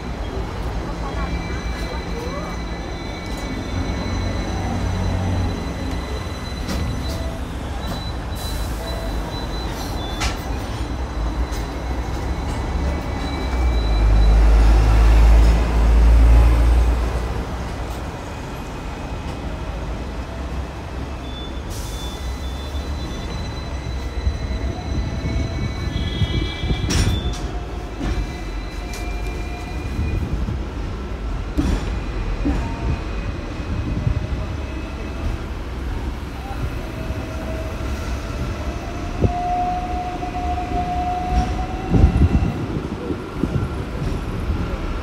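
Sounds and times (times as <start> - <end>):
tram rumbling on rails: 0.0 - 45.0.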